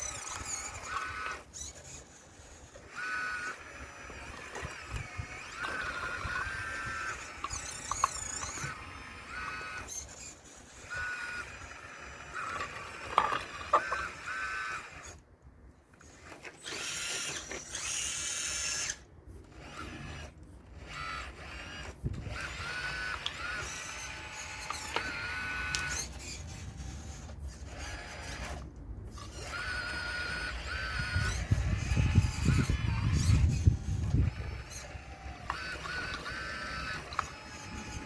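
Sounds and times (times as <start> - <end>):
electric motors whining: 0.0 - 15.3, 15.9 - 38.0.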